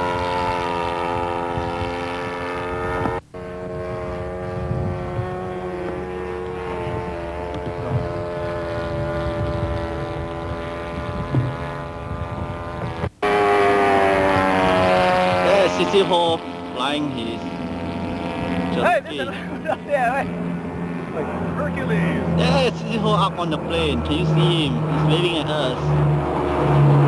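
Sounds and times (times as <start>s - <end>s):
model airplane engine drone: 0.0s - 27.0s.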